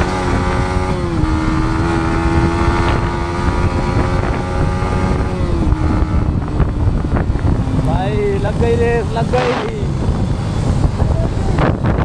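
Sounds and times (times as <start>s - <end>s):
motorcycle engine running at speed: 0.0s - 12.0s
wind rumble on microphone: 0.0s - 12.0s.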